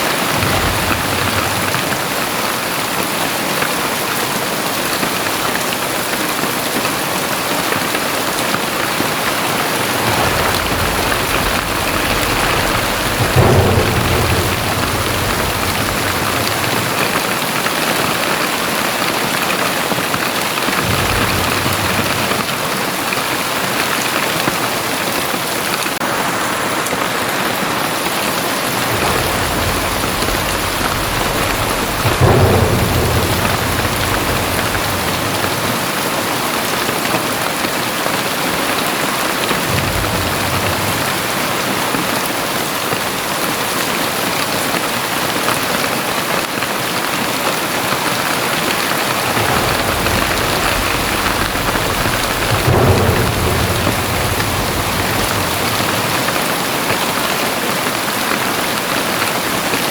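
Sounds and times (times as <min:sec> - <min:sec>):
thunder rumbling: 0:00.0 - 0:59.7
heavy rain pouring: 0:00.0 - 0:59.9.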